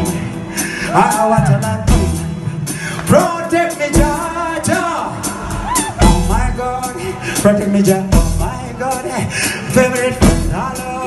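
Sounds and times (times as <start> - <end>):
live reggae band playing: 0.0 - 11.0
person singing: 0.0 - 11.0.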